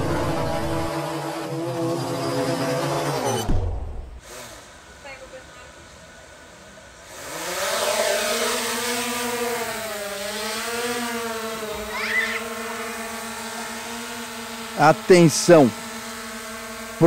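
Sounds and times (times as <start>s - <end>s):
drone propellers buzzing: 0.0s - 4.2s, 7.0s - 17.0s.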